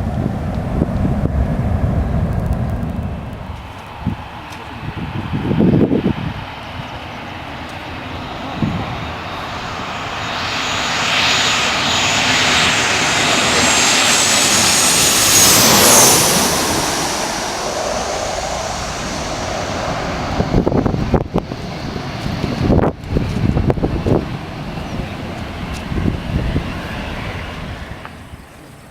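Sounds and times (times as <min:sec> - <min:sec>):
airliner passing: 0:00.0 - 0:28.9
high engine whine: 0:00.0 - 0:28.9.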